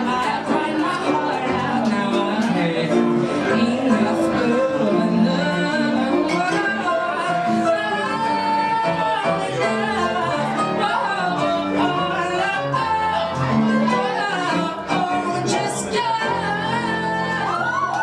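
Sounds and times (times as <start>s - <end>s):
man singing pop ballad: 0.0s - 17.6s
piano accompaniment: 0.0s - 18.0s.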